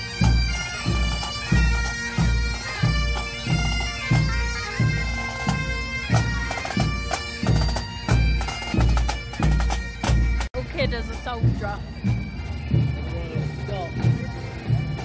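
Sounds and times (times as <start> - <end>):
bagpipes playing a tune: 0.0 - 15.0.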